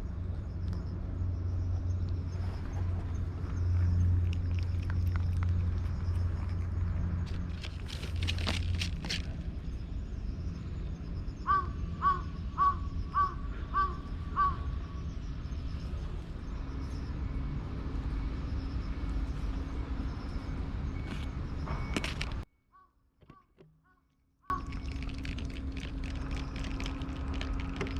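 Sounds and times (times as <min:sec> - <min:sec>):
low background rumble: 0:00.0 - 0:21.6, 0:24.5 - 0:27.9.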